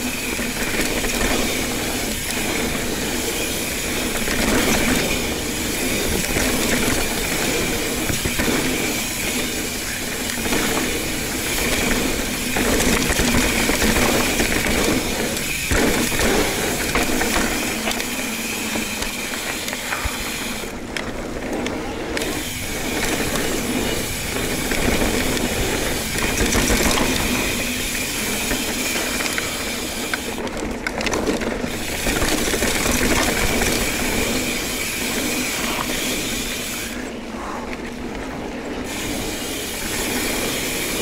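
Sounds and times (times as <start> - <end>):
bike knocks and rattles: 0.0 - 36.8
tyre and wind noise: 0.0 - 41.0.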